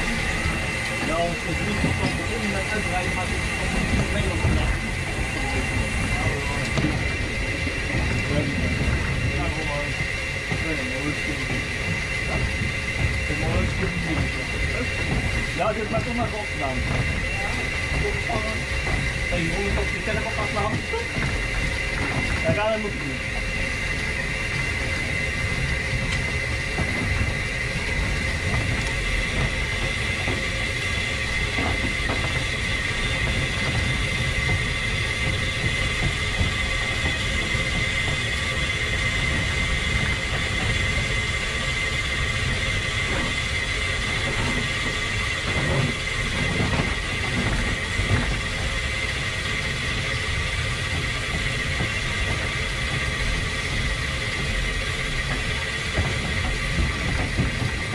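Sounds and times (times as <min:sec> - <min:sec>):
wheels rumbling on rail: 0:00.0 - 0:57.9.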